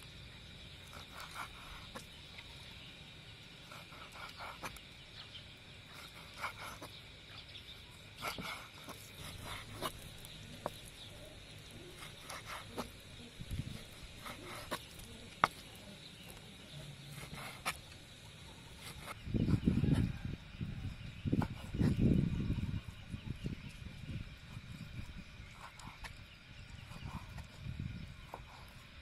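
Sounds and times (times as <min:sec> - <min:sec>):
steady high-pitched whine: 0:00.0 - 0:29.0.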